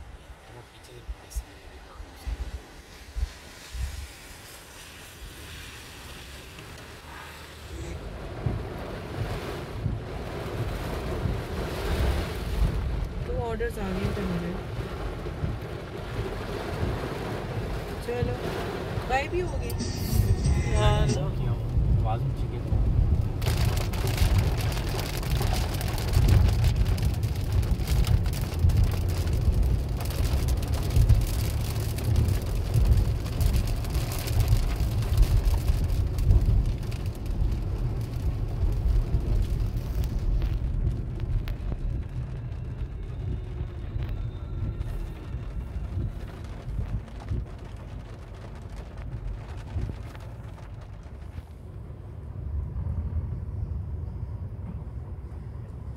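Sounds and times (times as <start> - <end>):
car rumble: 0.0 - 55.9
heavy rain on car roof: 0.3 - 52.4.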